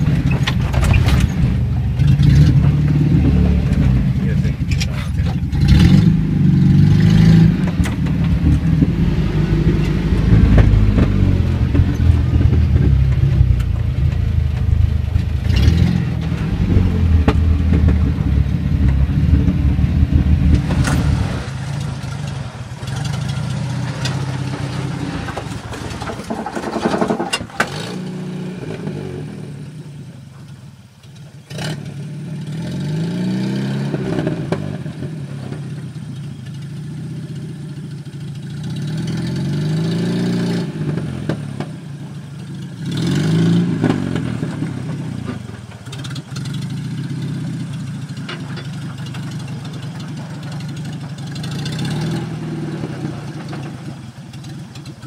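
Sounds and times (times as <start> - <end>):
vehicle engine running under load: 0.0 - 55.0.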